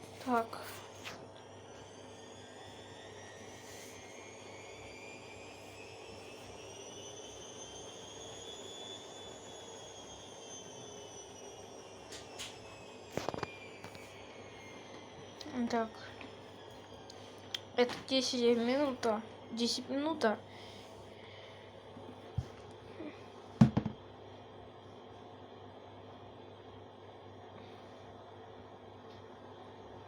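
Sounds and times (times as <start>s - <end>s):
washing machine spin whine: 0.0s - 30.0s.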